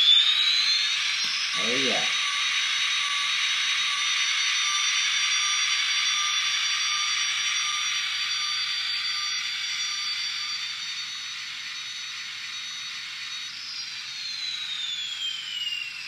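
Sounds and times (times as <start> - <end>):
high jet engine whine: 0.0 - 16.0.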